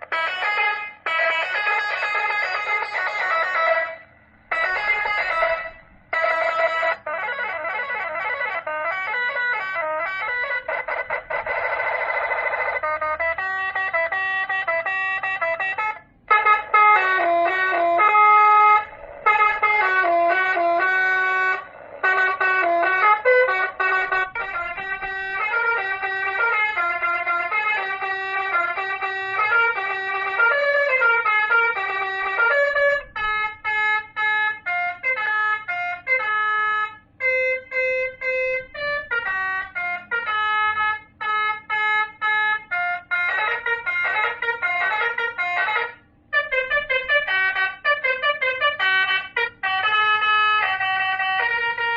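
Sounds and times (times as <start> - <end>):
electronic horn melody: 0.0 - 51.9.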